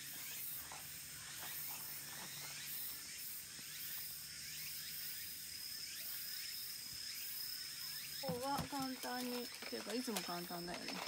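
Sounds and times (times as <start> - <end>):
insect chirps: 0.0 - 11.0
insects buzzing: 0.0 - 11.0.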